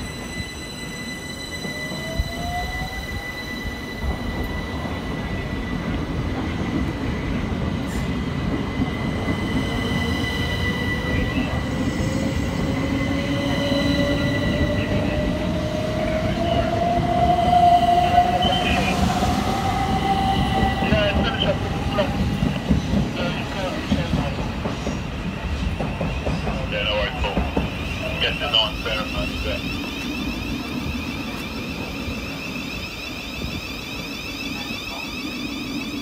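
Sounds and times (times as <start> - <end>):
electric train rumble: 0.0 - 36.0.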